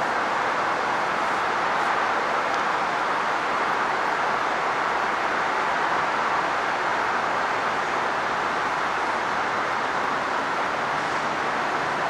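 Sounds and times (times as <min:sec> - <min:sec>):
train wheels rolling on rails: 0:00.0 - 0:12.0.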